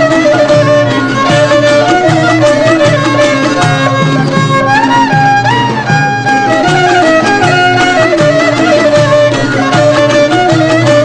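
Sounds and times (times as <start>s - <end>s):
folk melody with sliding notes: 0.0s - 11.0s
steady rhythmic beat: 0.0s - 11.0s.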